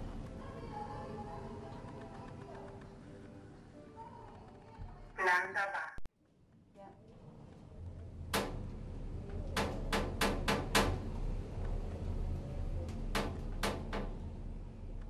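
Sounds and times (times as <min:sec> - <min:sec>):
steady low hum: 0:00.0 - 0:03.7, 0:06.6 - 0:15.0.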